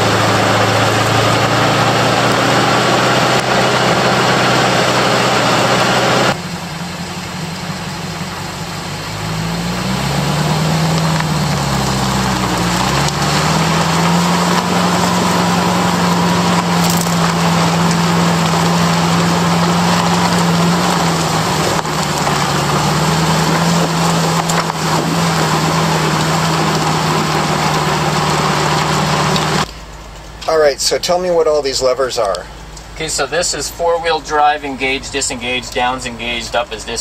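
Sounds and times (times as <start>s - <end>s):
tires rolling over dry leaves: 0.0s - 37.0s
truck engine running: 0.0s - 37.0s.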